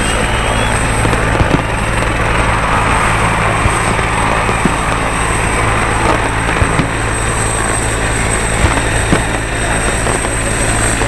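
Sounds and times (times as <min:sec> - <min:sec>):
helicopter engine and rotor drone: 0:00.0 - 0:11.0
high turbine whine: 0:00.0 - 0:11.0.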